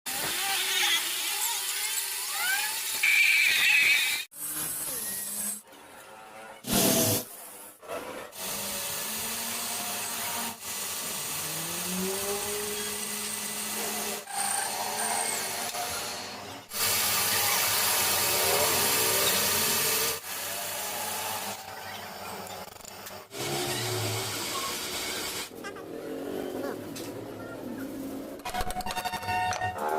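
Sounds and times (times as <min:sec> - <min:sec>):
power tools grinding metal: 0:00.1 - 0:25.6.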